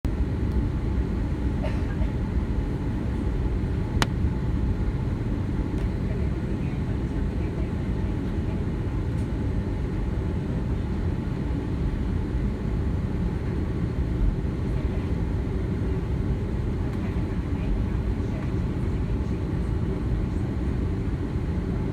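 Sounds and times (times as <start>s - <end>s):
airliner cabin rumble: 0.1s - 21.9s.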